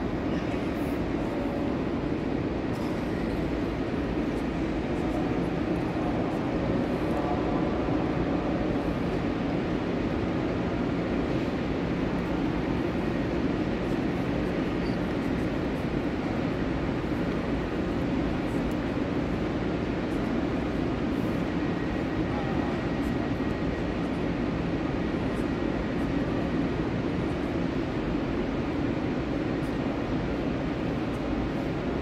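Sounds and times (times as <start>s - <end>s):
railway station rumble and hum: 0.0s - 32.0s.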